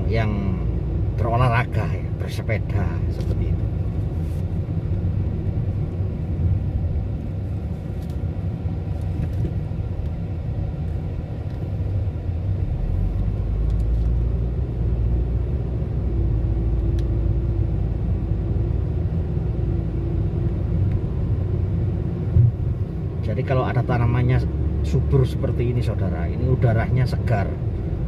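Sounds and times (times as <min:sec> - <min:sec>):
car cabin road and engine rumble: 0:00.0 - 0:28.0.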